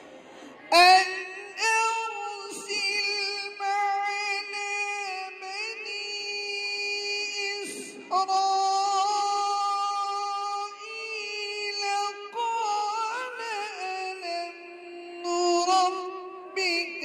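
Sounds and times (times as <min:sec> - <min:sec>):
person chanting recitation: 0:00.0 - 0:17.0.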